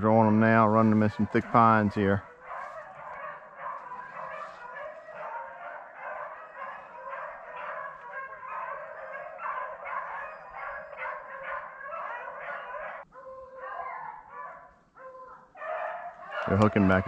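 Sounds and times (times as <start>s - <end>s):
dogs baying and barking: 0.0s - 17.0s.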